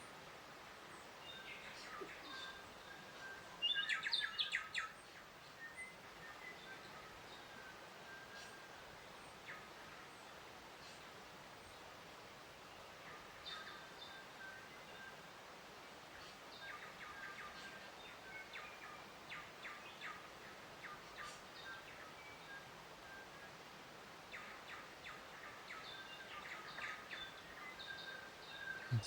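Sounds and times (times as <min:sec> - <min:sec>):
faint background hiss: 0:00.0 - 0:29.0
small birds chirping: 0:00.0 - 0:29.0.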